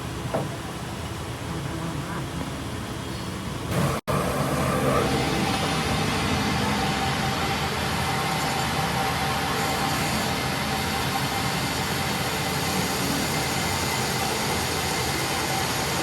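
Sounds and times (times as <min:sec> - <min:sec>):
mechanical running hum: 0:00.0 - 0:16.0.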